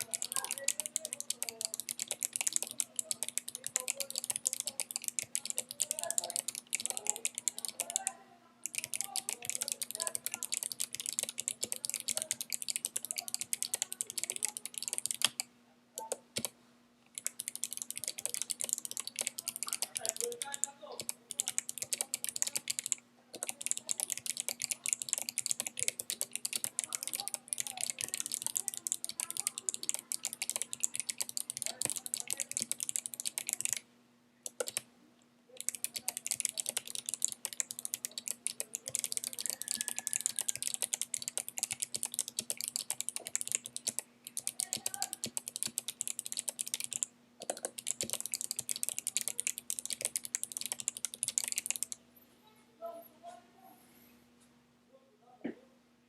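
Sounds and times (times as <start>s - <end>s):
mechanical keyboard typing: 0.0s - 15.4s, 16.0s - 16.5s, 17.2s - 33.8s, 34.4s - 34.8s, 35.6s - 52.0s.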